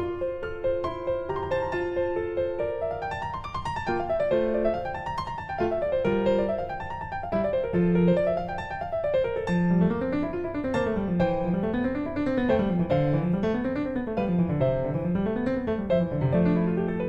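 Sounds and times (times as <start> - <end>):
piano arpeggios: 0.0 - 17.0.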